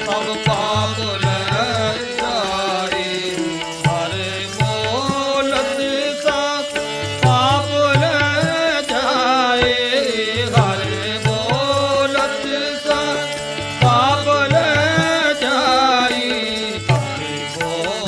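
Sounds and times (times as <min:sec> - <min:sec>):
harmonium: 0:00.0 - 0:18.0
person singing: 0:00.0 - 0:18.0
tabla drumming: 0:00.0 - 0:18.0.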